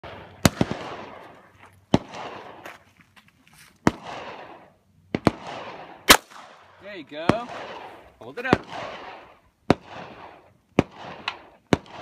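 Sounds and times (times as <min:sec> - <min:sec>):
pistol shots echoing: 0:00.1 - 0:01.3, 0:01.9 - 0:02.6, 0:03.8 - 0:12.0.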